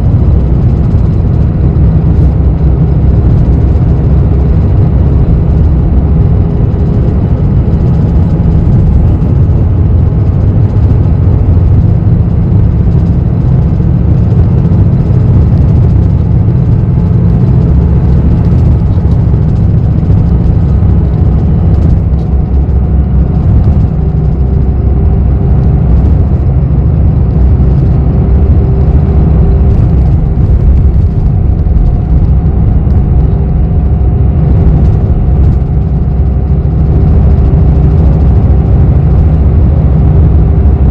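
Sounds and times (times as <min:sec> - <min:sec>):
bus engine and road rumble: 0:00.0 - 0:40.9
faint whine: 0:00.0 - 0:40.9.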